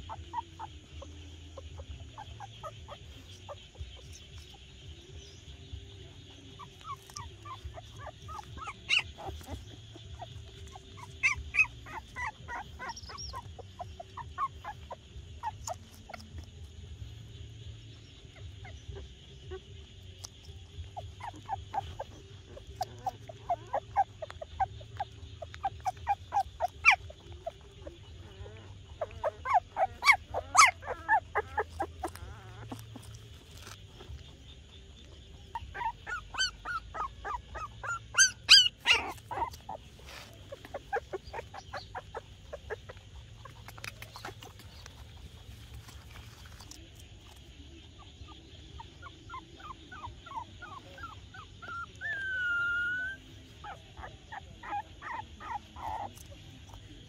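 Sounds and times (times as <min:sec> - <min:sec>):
young animal squeaking: 0:00.0 - 0:05.1, 0:06.4 - 0:17.0, 0:18.2 - 0:57.0.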